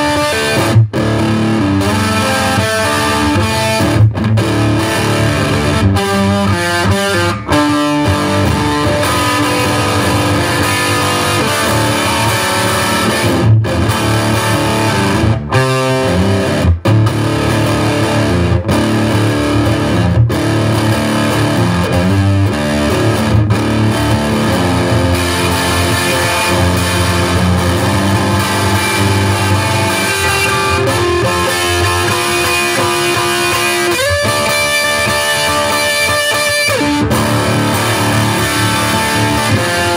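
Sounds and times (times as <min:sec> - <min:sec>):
electric guitar blues riff: 0:00.0 - 0:39.9.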